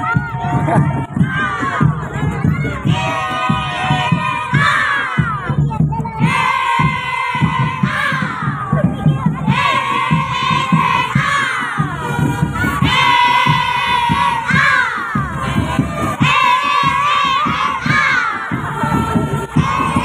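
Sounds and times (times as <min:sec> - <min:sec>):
children shouting and chanting: 0:00.0 - 0:20.0
marching band drums beating: 0:00.0 - 0:20.0.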